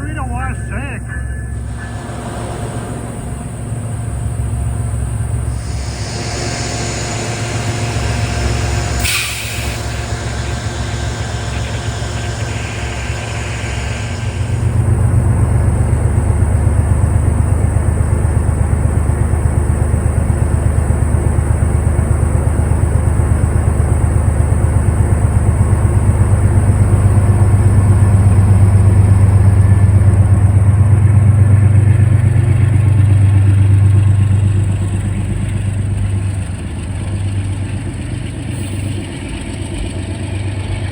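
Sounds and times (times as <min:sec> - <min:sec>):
diesel locomotive engine throbbing: 0:00.0 - 0:40.9.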